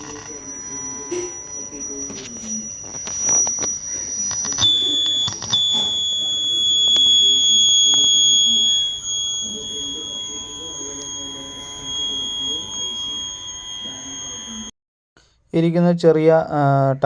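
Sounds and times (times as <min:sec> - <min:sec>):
clicks: 0:00.0 - 0:14.7
speaker high-pitched whine: 0:00.0 - 0:14.7.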